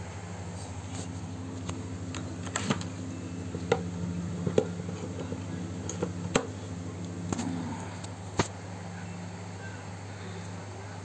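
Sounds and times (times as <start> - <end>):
low hum of fixed tones: 0.0 - 11.0.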